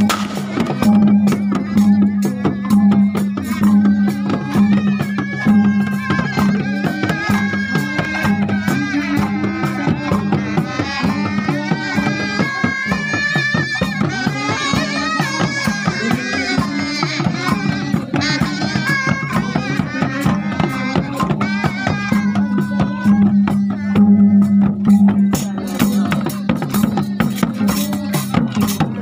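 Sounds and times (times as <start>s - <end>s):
drums beating steady rhythm: 0.0s - 29.0s
wind instruments playing melody: 0.0s - 29.0s.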